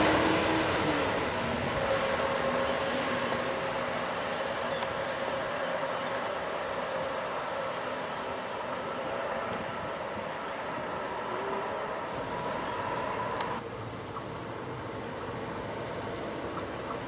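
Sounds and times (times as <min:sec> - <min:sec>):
train running past on rails: 0:00.0 - 0:17.0.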